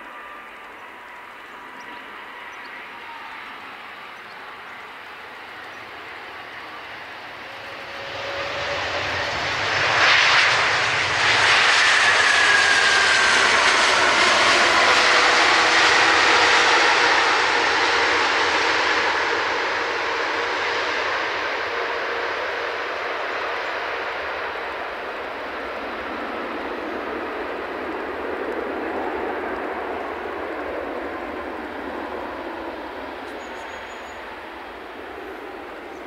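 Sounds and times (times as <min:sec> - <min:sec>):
jet airliner passing: 0:00.0 - 0:36.0
jet engine whine falling in pitch: 0:00.0 - 0:36.0.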